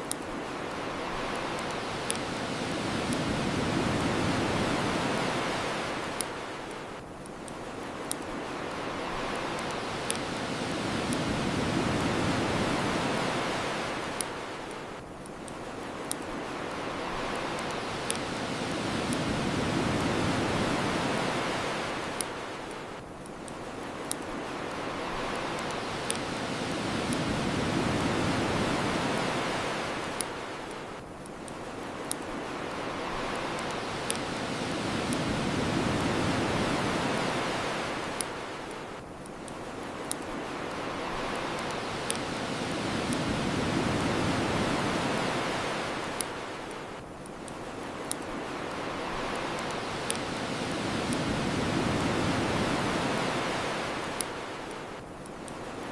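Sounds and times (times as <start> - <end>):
bonfire crackling and popping: 0.0 - 55.9
ocean waves washing on shore: 0.0 - 55.9.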